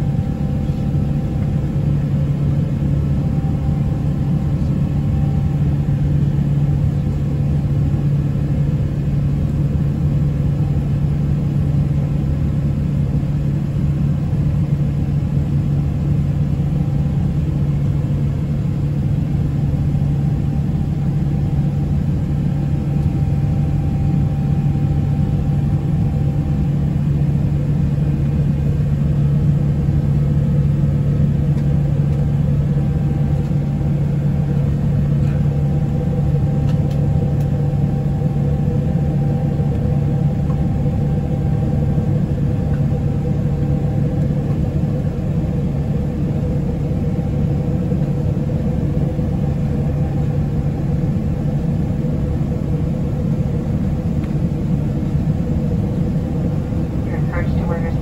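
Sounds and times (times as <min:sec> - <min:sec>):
jet engines at climb power: 0:00.0 - 0:58.0.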